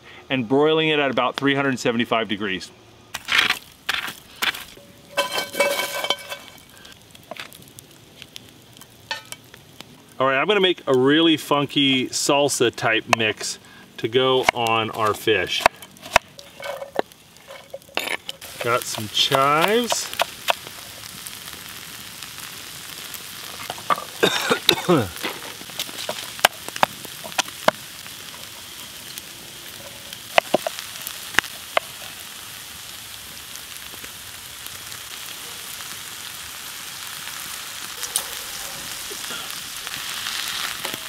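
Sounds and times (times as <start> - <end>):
onion sizzling in a skillet: 3.1 - 41.0.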